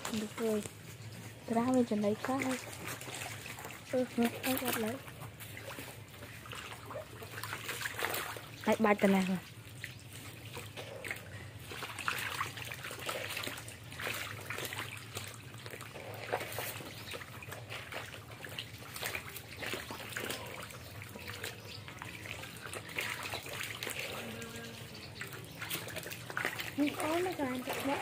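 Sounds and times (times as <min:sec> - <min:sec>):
shallow water trickling and splashing: 0:00.0 - 0:28.0.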